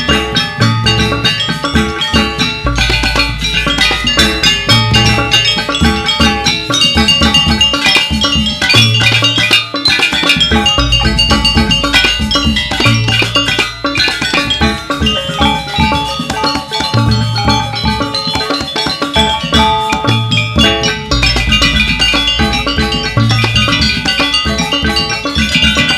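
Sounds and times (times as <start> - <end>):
drums: 0.0 - 25.9
metallophones playing: 0.0 - 25.9.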